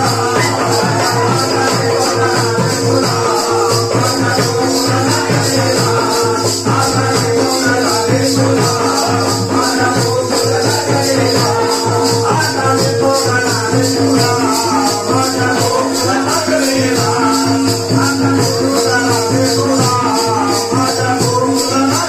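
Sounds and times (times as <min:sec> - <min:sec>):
jingling percussion: 0:00.0 - 0:22.0
man singing into microphone: 0:00.0 - 0:22.0
steady drum beat: 0:00.0 - 0:22.0
steady held notes: 0:00.0 - 0:22.0.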